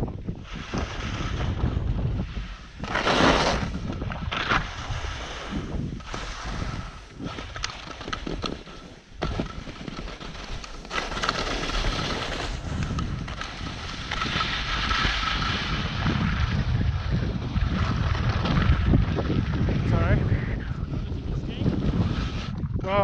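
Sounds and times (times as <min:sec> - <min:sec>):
wind buffeting microphone: 0:00.0 - 0:23.0
skis scraping over snow: 0:00.3 - 0:22.6.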